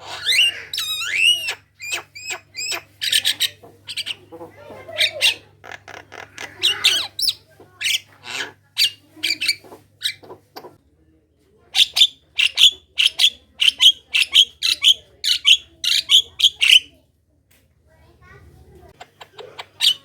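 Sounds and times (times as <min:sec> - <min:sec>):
myna chattering: 0:00.0 - 0:10.8, 0:11.7 - 0:17.0, 0:18.9 - 0:20.0.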